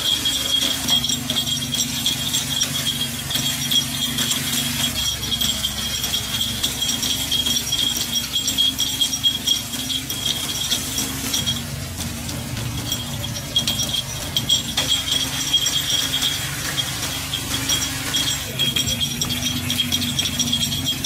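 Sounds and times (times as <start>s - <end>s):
metal clicking and rattling: 0.0s - 21.0s.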